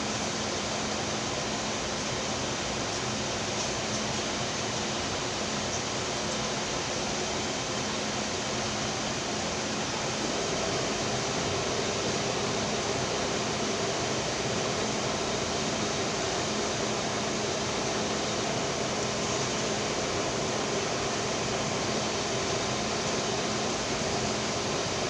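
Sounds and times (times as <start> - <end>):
electric fan whirring: 0.0 - 25.0.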